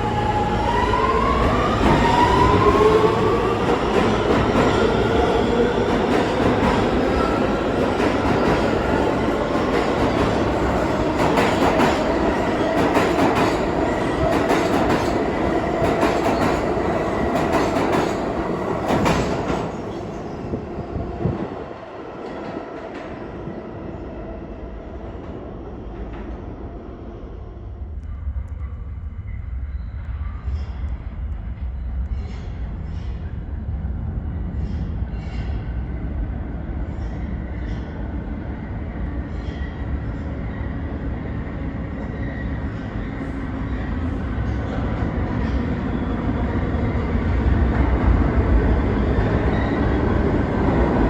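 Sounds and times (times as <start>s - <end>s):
loud subway train: 0.0s - 51.0s.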